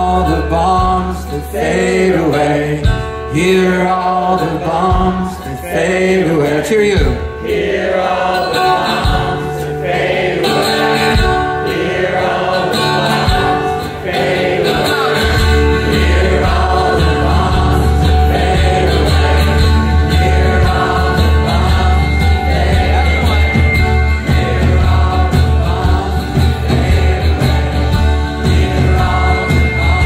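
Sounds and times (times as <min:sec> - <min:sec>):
acoustic guitar: 0:00.0 - 0:30.0
drums: 0:00.0 - 0:30.0
many voices singing together: 0:00.0 - 0:30.0.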